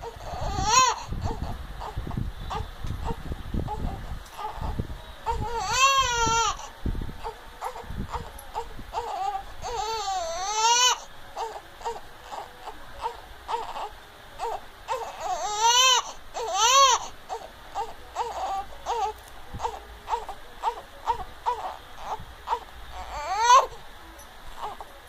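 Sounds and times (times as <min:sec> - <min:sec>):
infant crying: 0:00.0 - 0:23.8, 0:24.6 - 0:24.9.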